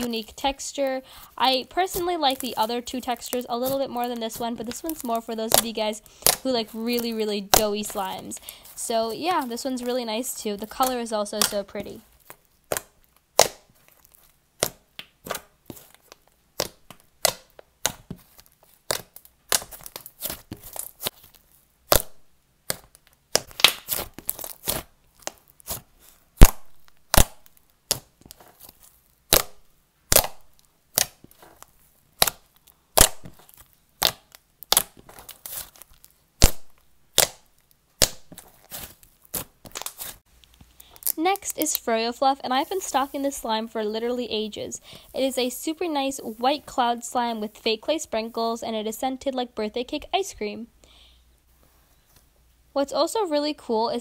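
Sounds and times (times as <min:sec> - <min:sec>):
slime popping and crackling: 0:00.0 - 0:44.6
slime squishing: 0:00.0 - 0:47.6.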